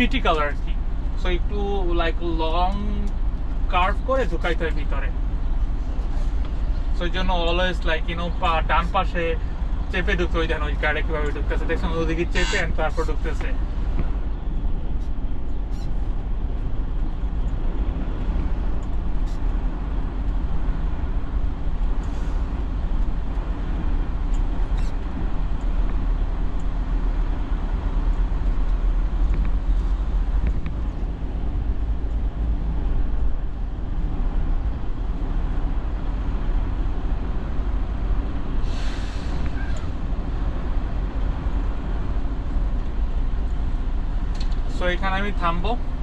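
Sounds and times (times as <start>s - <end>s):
diesel truck engine droning: 0.0s - 46.0s.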